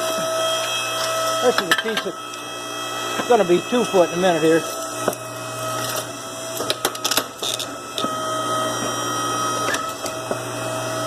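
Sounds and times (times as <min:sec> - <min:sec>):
small electric motor running: 0:00.0 - 0:11.0.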